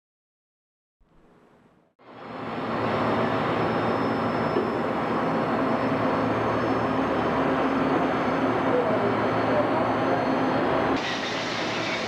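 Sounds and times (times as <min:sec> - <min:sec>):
lathe and machinery running: 0:02.0 - 0:12.0.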